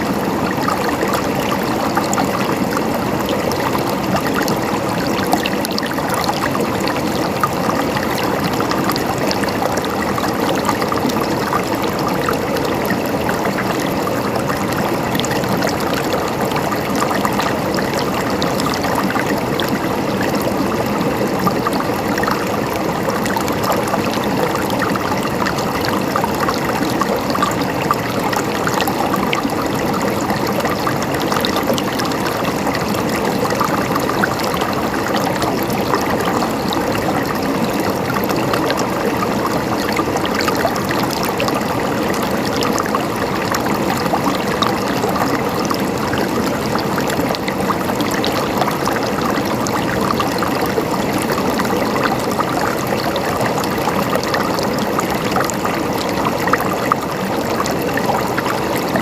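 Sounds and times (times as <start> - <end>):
stream water rushing and gurgling: 0.0 - 59.0.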